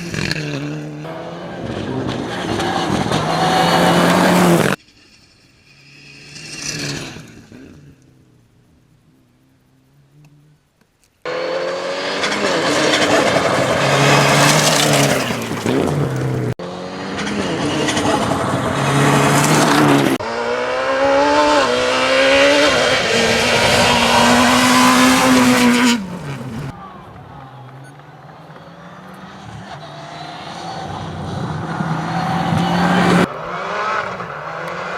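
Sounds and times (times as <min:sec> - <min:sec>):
rally car engine revving: 0:00.0 - 0:04.8, 0:11.3 - 0:34.9.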